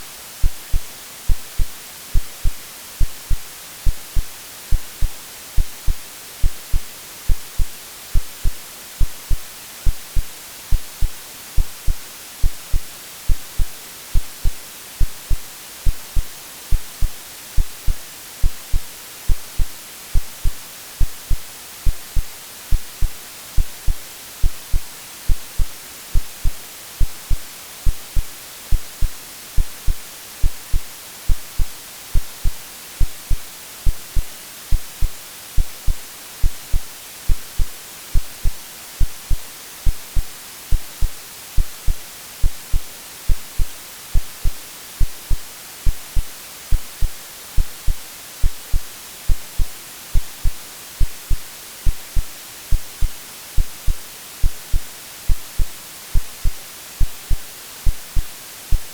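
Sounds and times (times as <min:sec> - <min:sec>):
white noise hiss: 0:00.0 - 0:58.9
heartbeat thumps: 0:00.4 - 0:58.9.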